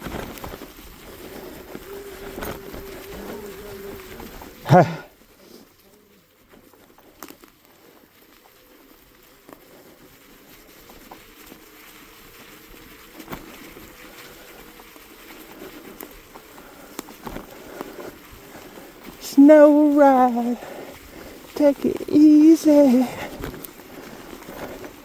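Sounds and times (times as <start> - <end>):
bike tyres over snow: 0.0 - 25.0.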